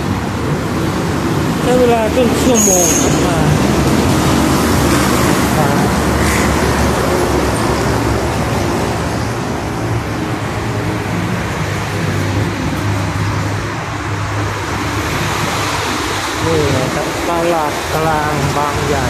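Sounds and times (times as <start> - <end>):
tyres on road: 0.0 - 19.0
vehicle engines running: 0.0 - 19.0.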